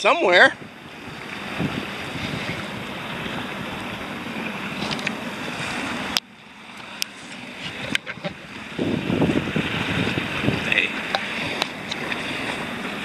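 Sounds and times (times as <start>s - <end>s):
water lapping: 0.0s - 13.0s
wind buffeting microphone: 0.4s - 6.2s, 7.4s - 13.0s.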